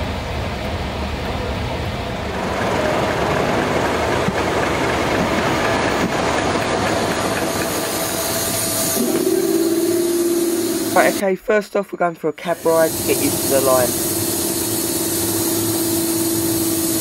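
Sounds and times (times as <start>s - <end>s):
diesel locomotive engine rumble: 0.0s - 11.6s, 12.3s - 17.0s.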